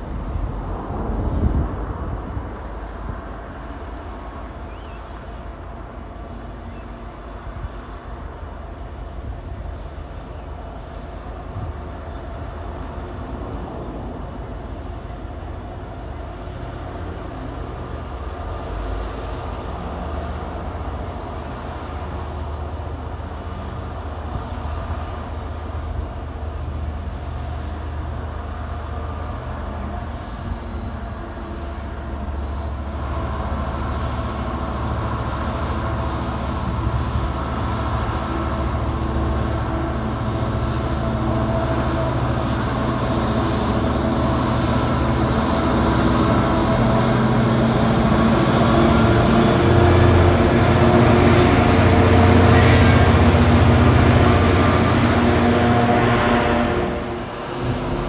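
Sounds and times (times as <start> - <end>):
diesel locomotive drone: 0.0 - 58.0.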